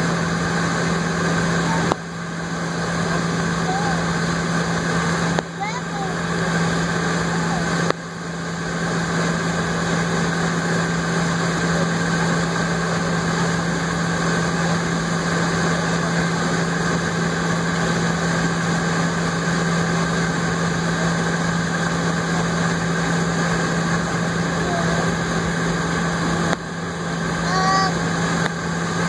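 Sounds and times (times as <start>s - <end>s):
jet engines idling: 0.0s - 29.0s.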